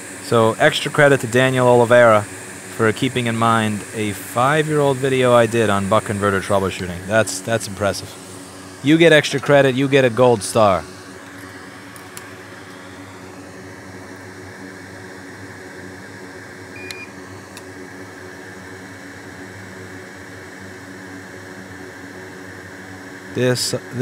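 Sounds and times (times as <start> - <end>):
equipment fan hum and hiss: 0.0 - 24.0.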